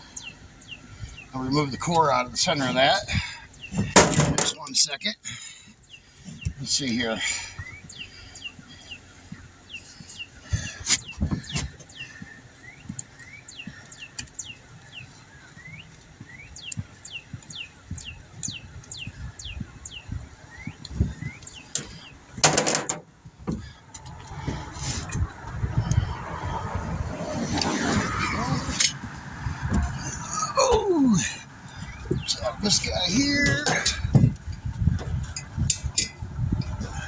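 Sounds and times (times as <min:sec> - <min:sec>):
bird chirping: 0:00.0 - 0:05.0, 0:05.8 - 0:22.4, 0:23.6 - 0:34.5.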